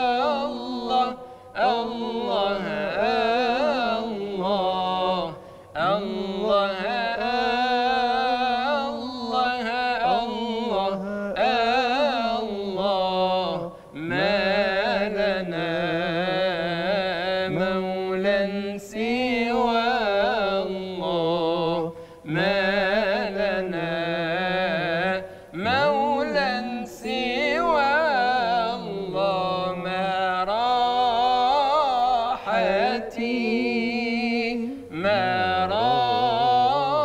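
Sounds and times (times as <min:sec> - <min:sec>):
man singing devotional chant: 0:00.0 - 0:37.0.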